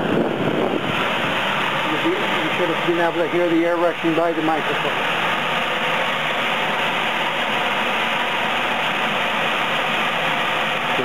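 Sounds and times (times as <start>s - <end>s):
furnace blower air rushing: 0.0s - 11.0s.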